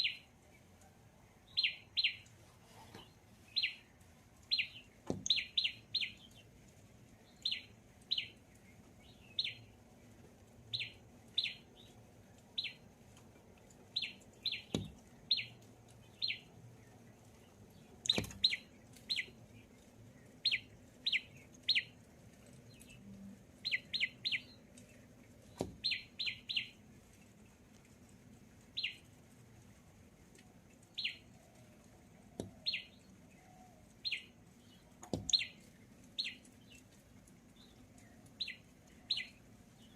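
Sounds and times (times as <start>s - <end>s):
small bird chirping: 0.0s - 0.7s, 1.4s - 6.5s, 7.2s - 9.8s, 10.7s - 12.9s, 13.9s - 26.8s, 28.7s - 29.2s, 30.8s - 31.4s, 32.3s - 39.9s.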